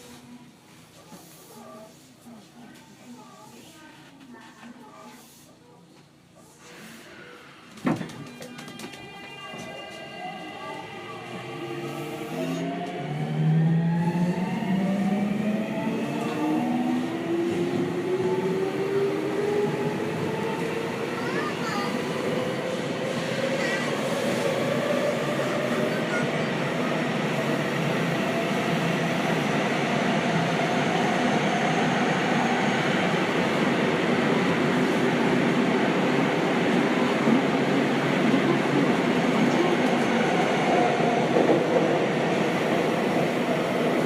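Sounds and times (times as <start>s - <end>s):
train wheels rushing in tunnel: 6.8s - 44.0s.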